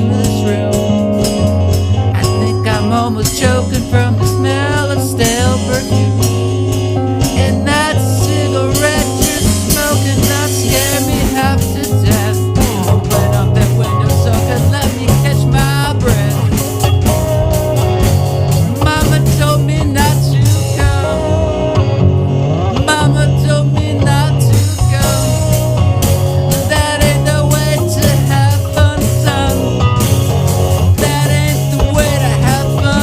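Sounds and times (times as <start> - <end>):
bass line: 0.0 - 33.0
drum kit beat: 0.0 - 33.0
electric guitar: 0.0 - 33.0
wavering lead line: 0.0 - 33.0.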